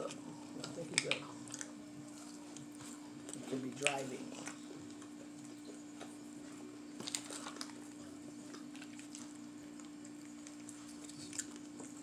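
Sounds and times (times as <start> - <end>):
faint eating sounds: 0.0 - 12.0
steady low hum: 0.0 - 12.0.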